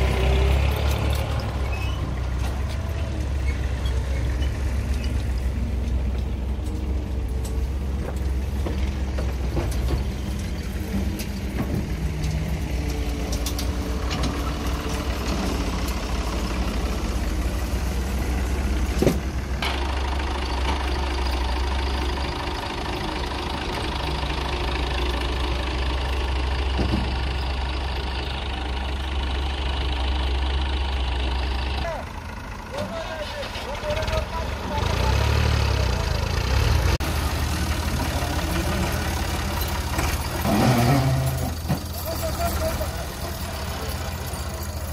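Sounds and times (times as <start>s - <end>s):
tractor diesel engine idling: 0.0s - 44.9s.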